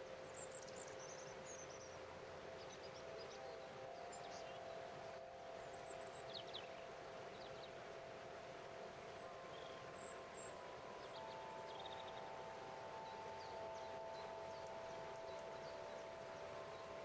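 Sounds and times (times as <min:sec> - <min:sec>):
bird chirps: 0:00.0 - 0:08.1, 0:09.2 - 0:17.0
crystal harp ringing tones: 0:00.0 - 0:17.0
faint running water: 0:00.0 - 0:17.0.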